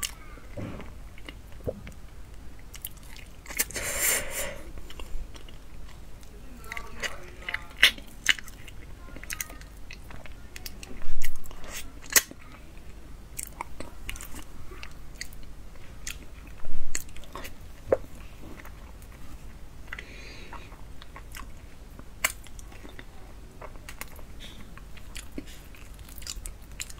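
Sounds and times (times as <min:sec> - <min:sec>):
person chewing with wet smacks: 0:00.0 - 0:03.8, 0:04.7 - 0:26.9.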